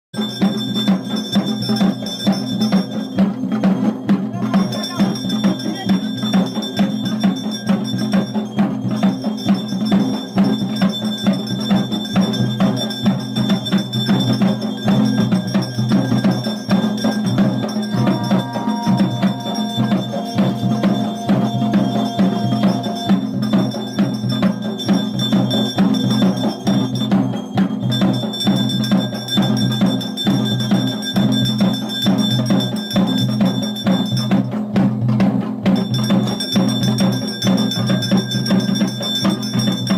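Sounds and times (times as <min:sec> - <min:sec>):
clanking metal bell: 0:00.2 - 0:39.9
fast drumming: 0:00.2 - 0:39.9.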